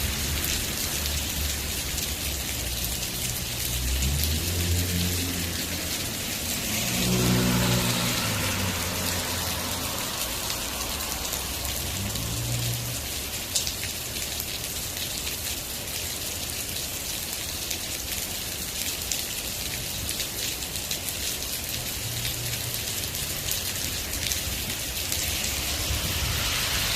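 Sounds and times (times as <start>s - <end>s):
rain pattering: 0.0s - 26.9s.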